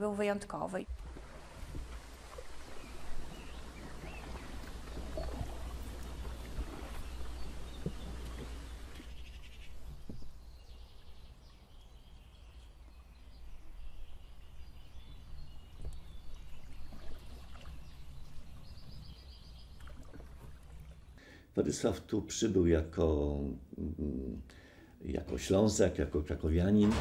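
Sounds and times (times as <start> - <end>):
birds calling faintly: 0.2 - 21.9.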